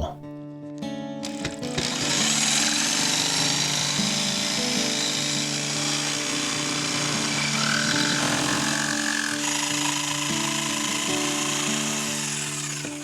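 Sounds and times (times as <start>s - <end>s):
power tool cutting wood: 1.2s - 13.0s.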